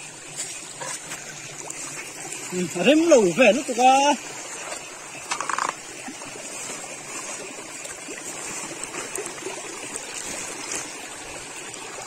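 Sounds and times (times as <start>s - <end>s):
stream trickling over rocks: 0.0s - 12.0s.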